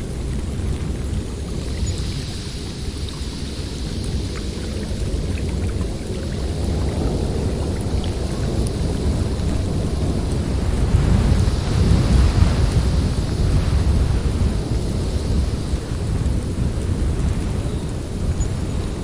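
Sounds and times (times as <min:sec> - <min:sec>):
hissing wind gust: 0:00.0 - 0:19.0
wind rumbling: 0:00.0 - 0:19.0.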